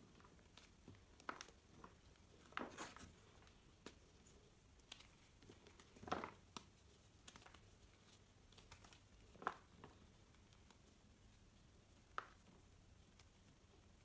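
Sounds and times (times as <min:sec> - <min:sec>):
hands crushing chalk: 0:00.0 - 0:13.6.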